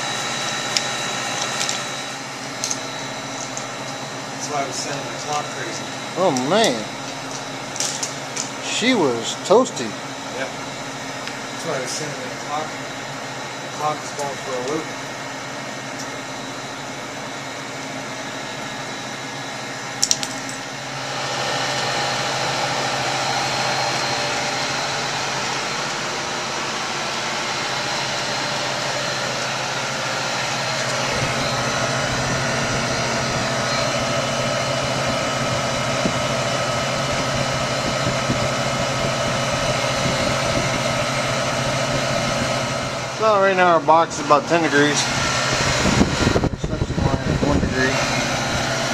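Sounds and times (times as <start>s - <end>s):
refrigeration equipment humming: 0.0s - 48.9s.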